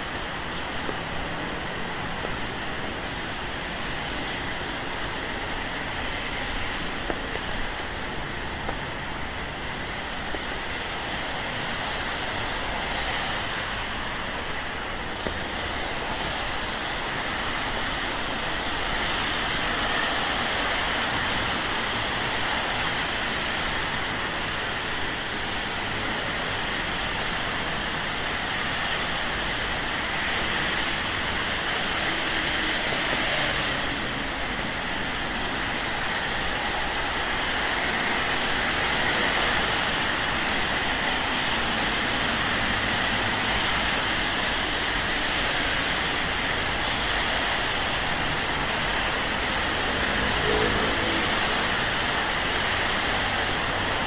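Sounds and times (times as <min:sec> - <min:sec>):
road traffic on wet streets: 0:00.0 - 0:54.0
steady rain: 0:00.0 - 0:54.0.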